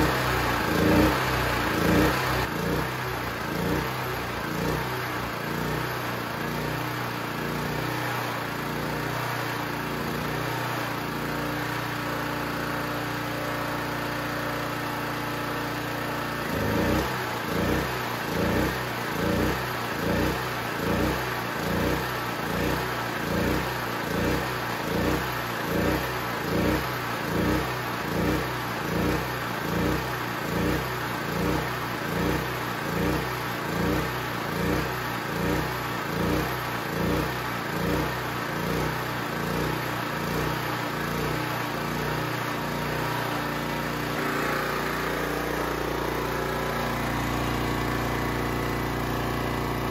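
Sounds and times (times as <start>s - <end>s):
generator engine surging: 0.0s - 12.1s, 12.8s - 49.9s.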